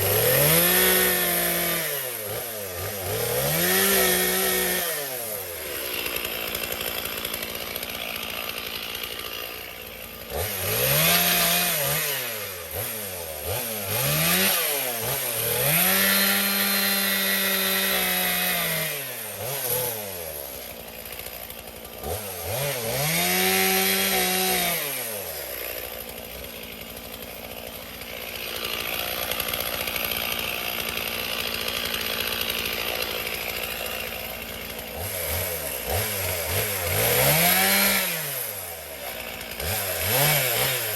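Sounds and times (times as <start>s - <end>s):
chainsaw revving and cutting: 0.0s - 40.9s.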